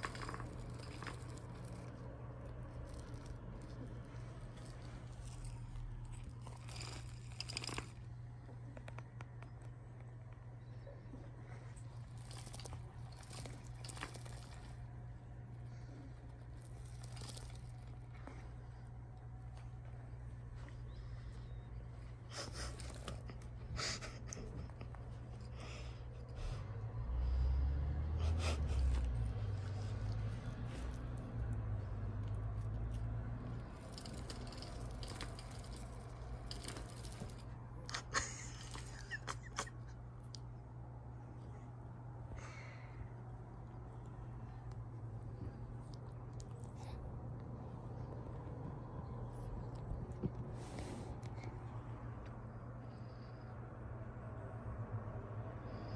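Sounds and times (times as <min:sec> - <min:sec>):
kittens rustling and scuffling: 0:00.0 - 0:26.8, 0:27.7 - 0:40.6, 0:44.4 - 0:52.0
steady low hum: 0:00.0 - 0:55.9.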